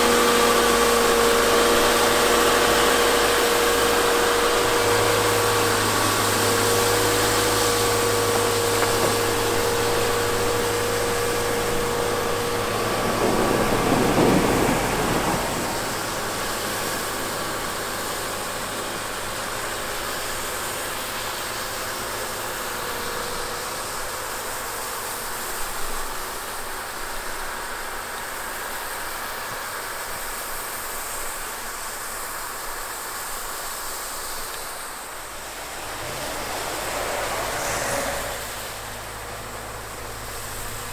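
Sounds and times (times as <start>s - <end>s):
excavator running: 0.0s - 29.2s, 34.4s - 40.9s
steady hiss: 0.0s - 40.9s.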